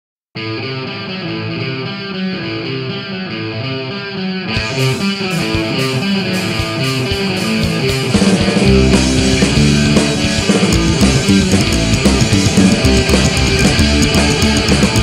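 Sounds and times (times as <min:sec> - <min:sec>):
punk rock song with guitar riff: 0:00.4 - 0:15.0.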